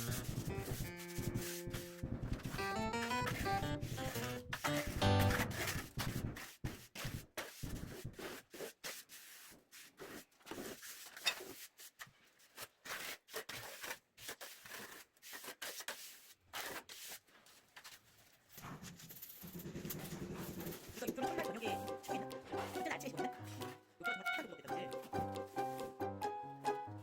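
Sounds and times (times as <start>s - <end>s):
irregular scraping and rubbing: 0.0s - 21.7s.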